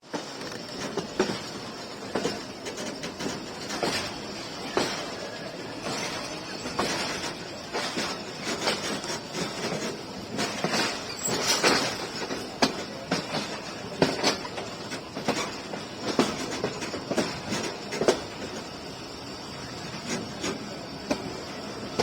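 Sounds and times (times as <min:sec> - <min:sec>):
train rumble: 0:00.0 - 0:22.0
train wheels clattering: 0:00.0 - 0:22.0.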